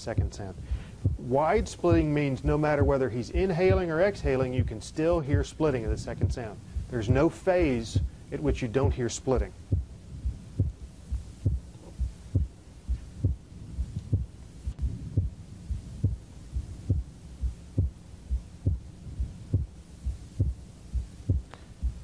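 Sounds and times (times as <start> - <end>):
heartbeat: 0.0 - 22.0.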